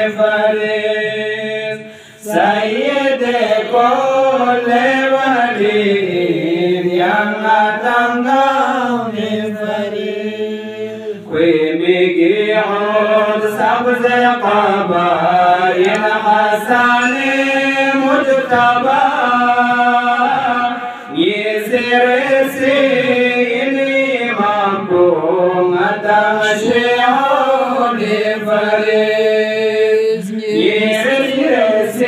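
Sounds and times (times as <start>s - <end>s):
man chanting: 0.0s - 32.0s.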